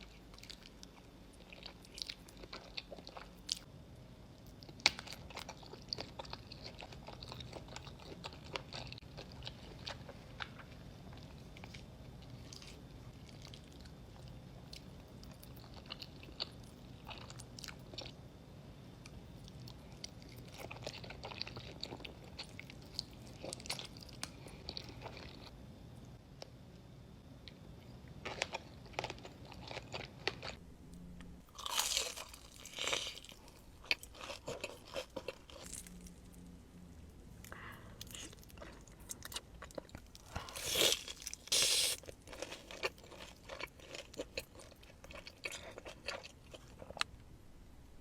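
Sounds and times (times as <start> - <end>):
chewing and crunching: 0.0 - 3.7, 4.4 - 18.3, 19.0 - 25.6, 27.4 - 30.6, 31.4 - 36.5, 37.4 - 47.1.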